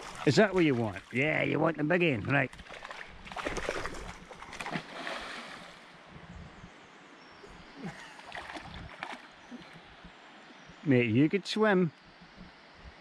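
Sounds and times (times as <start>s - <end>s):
river current running: 0.0s - 13.0s.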